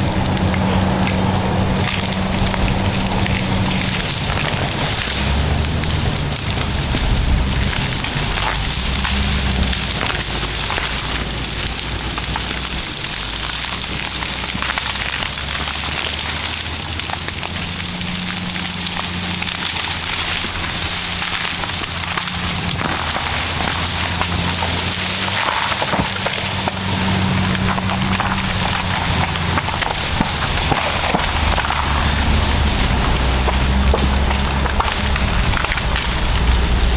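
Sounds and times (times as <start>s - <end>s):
branches snapping and splintering: 0.0s - 36.9s
bulldozer diesel engines under load: 0.0s - 36.9s
chain dragging through scrub: 0.0s - 36.9s.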